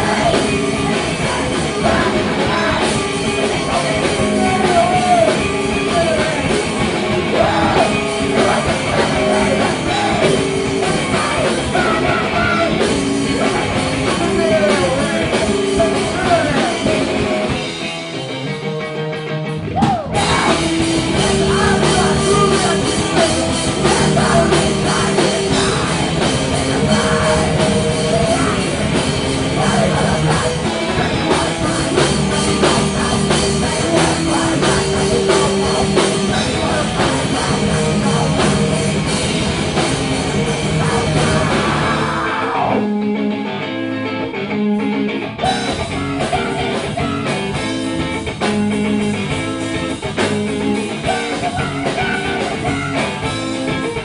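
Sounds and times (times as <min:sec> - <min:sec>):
live rock band with vocals: 0:00.0 - 0:54.0.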